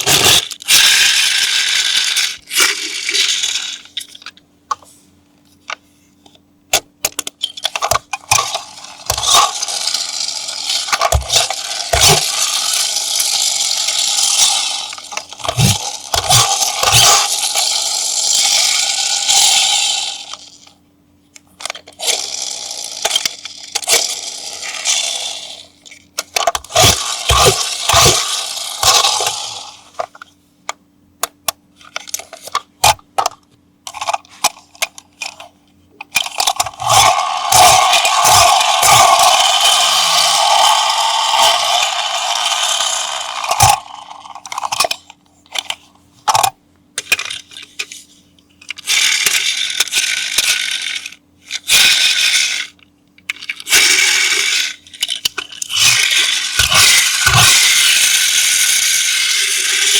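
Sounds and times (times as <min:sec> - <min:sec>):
plastic toy clicks and clatter: 0:00.0 - 0:04.9, 0:06.7 - 0:20.7, 0:21.4 - 0:59.9.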